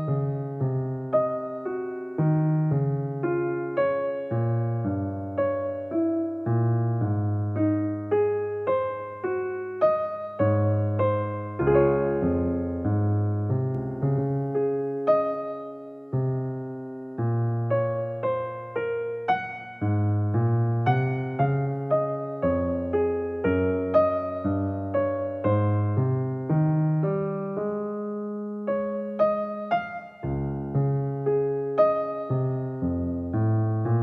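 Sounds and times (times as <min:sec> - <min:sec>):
slow gentle piano music: 0:00.0 - 0:34.0.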